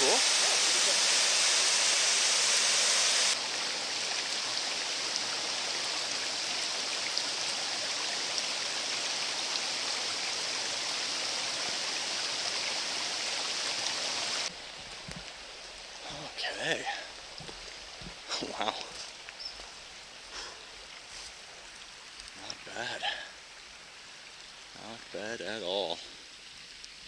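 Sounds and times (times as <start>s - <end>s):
creek running over rocks: 0.0s - 27.0s
water pouring down small waterfall: 0.0s - 27.0s.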